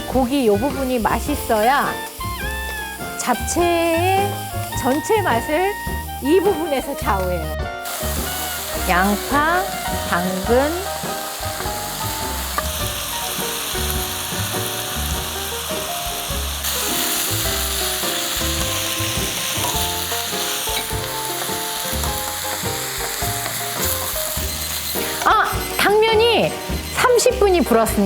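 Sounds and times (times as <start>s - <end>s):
vegetables and meat sizzling in oil: 0.0s - 28.0s.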